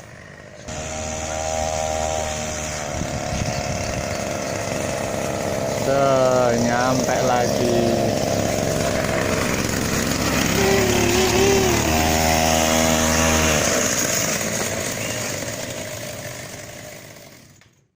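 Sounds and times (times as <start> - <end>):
small two-stroke engine running: 0.0 - 17.9.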